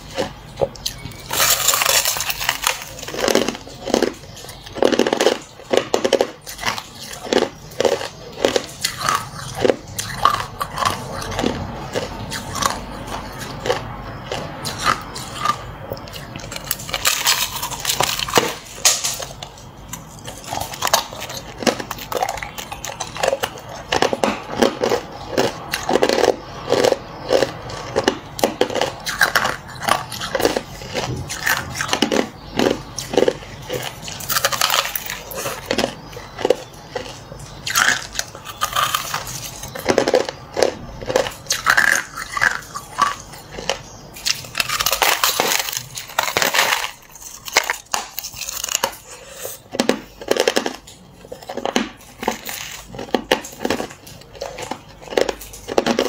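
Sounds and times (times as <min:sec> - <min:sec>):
chewing crushed ice: 0:00.0 - 0:56.0.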